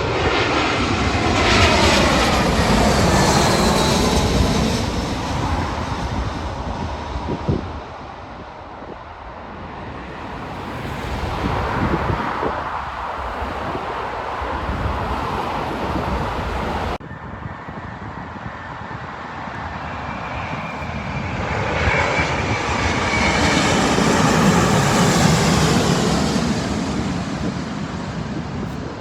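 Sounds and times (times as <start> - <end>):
high jet whine: 0.0 - 7.8, 10.0 - 29.0
jet airliner passing: 0.0 - 29.0.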